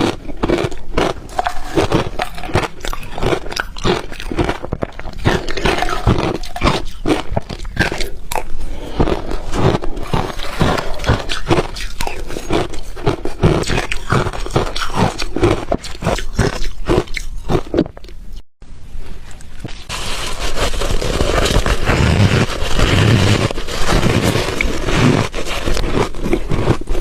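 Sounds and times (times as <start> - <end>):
ice being chewed: 0.0 - 18.4, 19.3 - 27.0.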